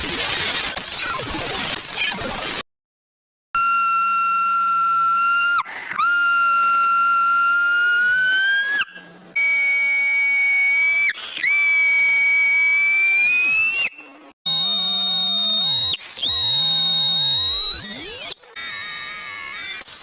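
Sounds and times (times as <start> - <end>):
shrill whistle-like tones: 3.6 - 20.0.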